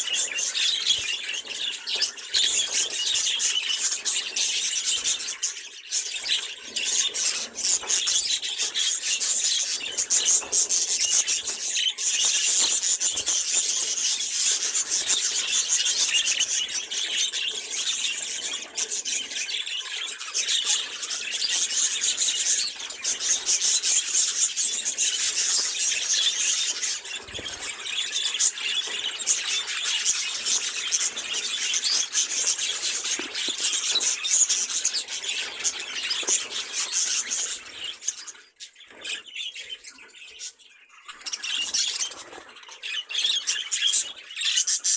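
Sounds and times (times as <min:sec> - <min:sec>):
budgerigars chattering and warbling: 0:00.0 - 0:44.9.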